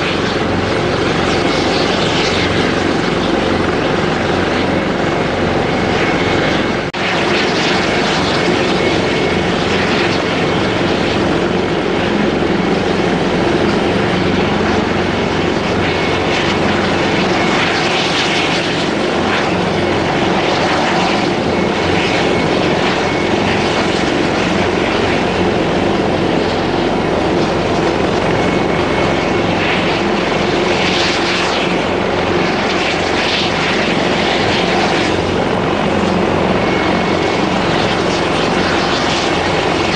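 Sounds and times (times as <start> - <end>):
helicopter rotor and engine: 0.0 - 39.9
thin turbine whine: 0.0 - 39.9.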